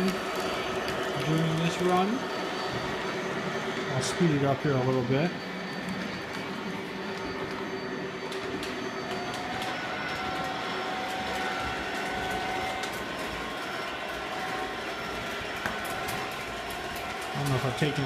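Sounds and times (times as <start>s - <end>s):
toy train motor whirring: 0.0s - 3.2s, 5.8s - 18.0s
toy train wheels rumbling: 0.0s - 18.0s.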